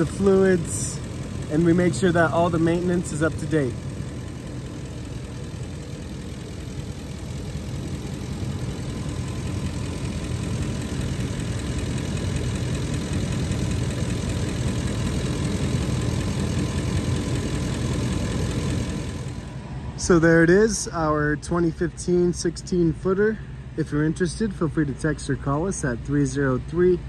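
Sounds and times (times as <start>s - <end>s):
gasoline engine idling: 0.0s - 27.0s.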